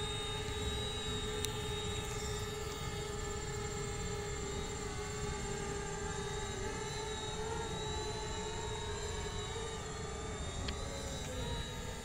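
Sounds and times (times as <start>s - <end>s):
drone propeller whine: 0.0s - 12.0s.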